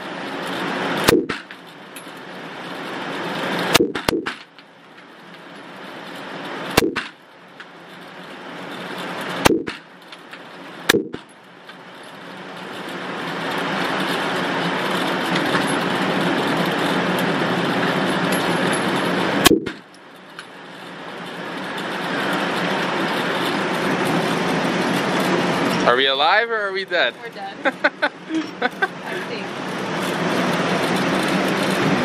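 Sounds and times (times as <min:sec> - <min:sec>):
steady background rush: 0:00.0 - 0:32.0.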